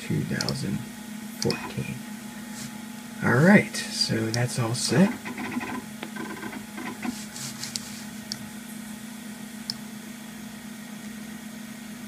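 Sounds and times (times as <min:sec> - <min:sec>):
computer hum: 0:00.0 - 0:10.5.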